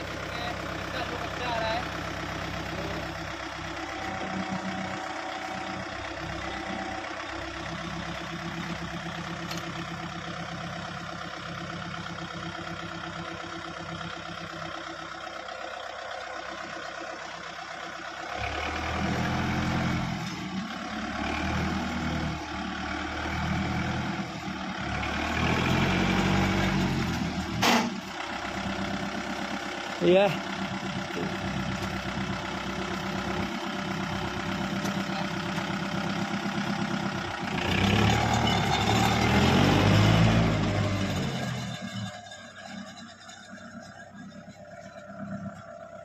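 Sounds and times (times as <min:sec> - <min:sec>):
tractor diesel engine: 0:00.0 - 0:46.0.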